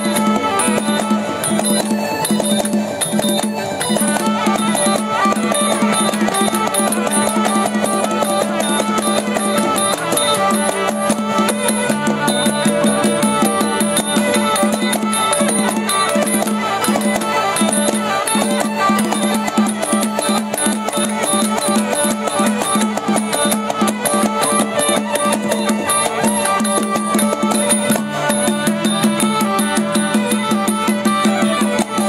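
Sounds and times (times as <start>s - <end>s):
fast percussion beat: 0.0s - 32.0s
held instrumental tones: 0.0s - 32.0s.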